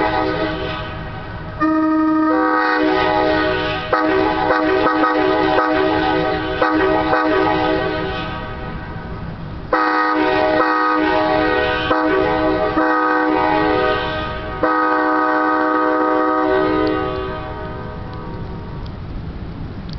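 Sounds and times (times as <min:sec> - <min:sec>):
locomotive air horn blasts: 0:00.0 - 0:18.4.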